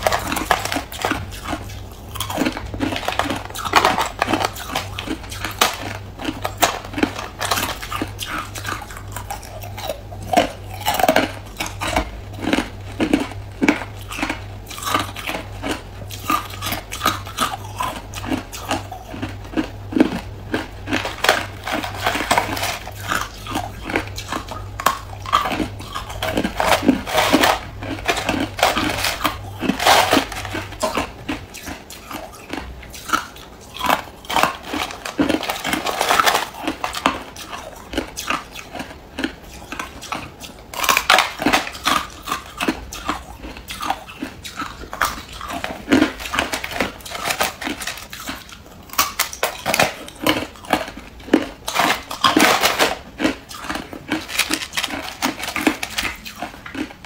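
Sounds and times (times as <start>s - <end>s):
ice crunching while chewed: 0.0s - 57.0s
low steady hum: 0.0s - 57.0s.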